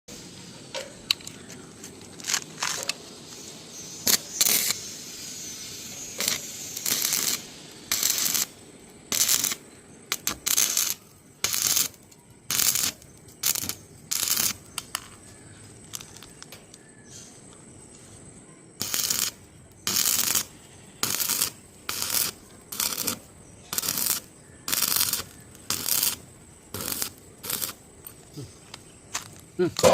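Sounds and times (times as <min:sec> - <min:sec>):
welding arc crackling and sizzling: 0:02.1 - 0:16.6, 0:18.8 - 0:29.9.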